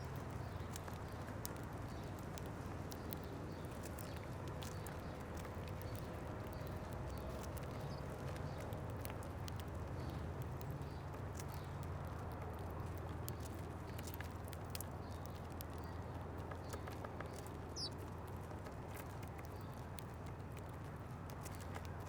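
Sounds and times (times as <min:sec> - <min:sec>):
birds pecking taps and clicks: 0:00.0 - 0:22.0.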